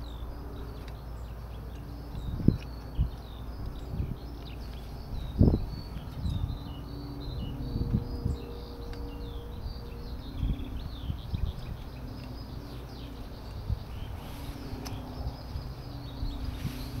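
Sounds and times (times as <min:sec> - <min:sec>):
birdsong: 0:00.0 - 0:17.0.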